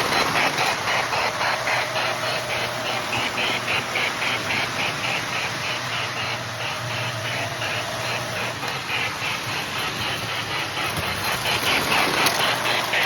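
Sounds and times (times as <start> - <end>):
model train steam chuffing: 0.0 - 13.0.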